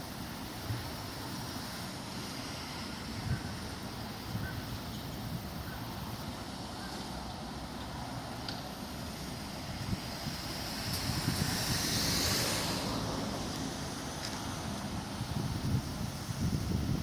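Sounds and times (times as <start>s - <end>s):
strong wind buffeting microphone: 0.1s - 6.8s, 8.6s - 17.0s.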